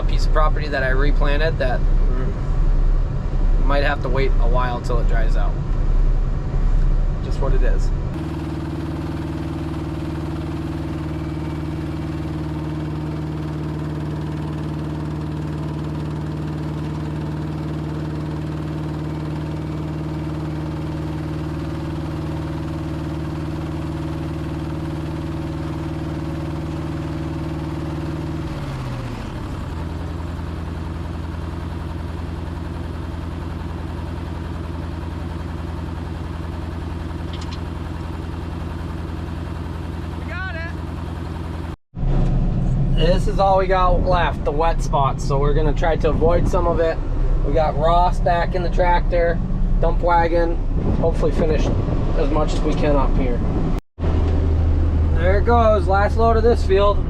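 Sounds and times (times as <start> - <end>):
forage harvester running: 0.0 - 53.4.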